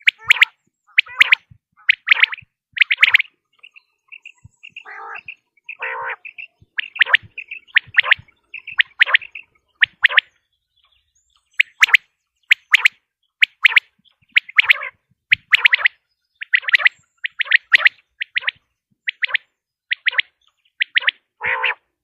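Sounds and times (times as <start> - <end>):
quail calling: 0.0 - 21.9.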